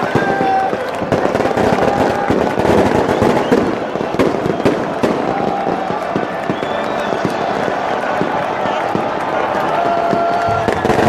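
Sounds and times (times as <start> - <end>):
firecrackers banging: 0.0 - 11.0
stadium crowd din: 0.0 - 11.0.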